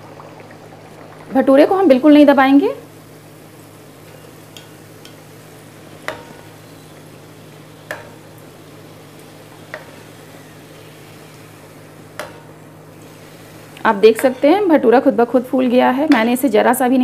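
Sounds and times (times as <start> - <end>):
bread sizzling in hot oil: 0.0 - 17.0.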